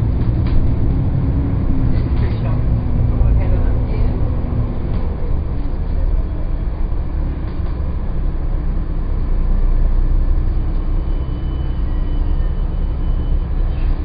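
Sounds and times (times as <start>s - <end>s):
bus diesel engine rumble: 0.0s - 14.0s
road noise: 0.0s - 14.0s.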